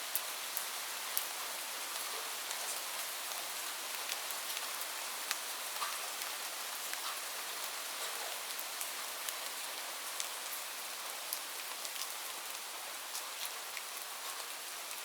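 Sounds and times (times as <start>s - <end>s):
light rain hissing: 0.0s - 15.0s
raindrops ticking on a surface: 0.0s - 15.0s.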